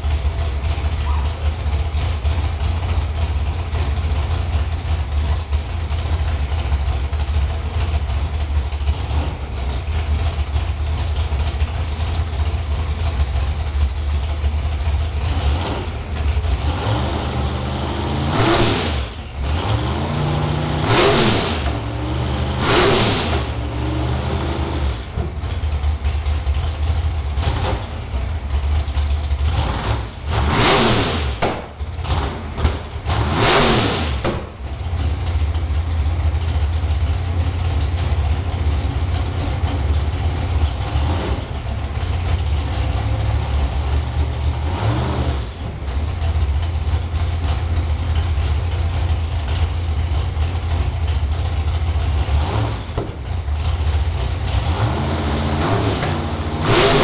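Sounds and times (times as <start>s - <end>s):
engine idling and revving: 0.0s - 57.0s.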